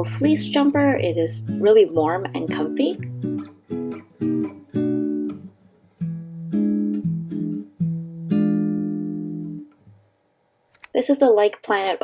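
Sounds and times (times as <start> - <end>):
acoustic guitar strumming chords: 0.0 - 10.1.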